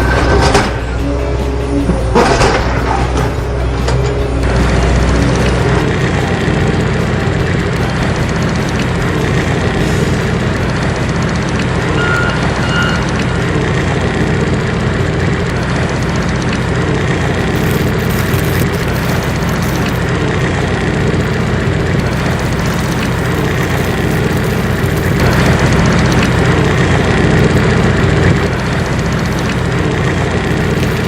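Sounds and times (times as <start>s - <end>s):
large vehicle engine running: 0.0s - 31.0s.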